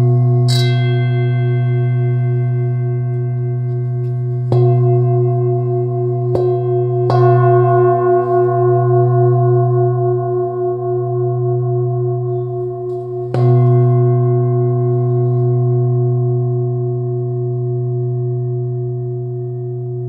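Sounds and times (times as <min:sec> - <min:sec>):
singing bowl being struck: 0:00.0 - 0:20.0
singing bowl ringing: 0:00.0 - 0:20.0.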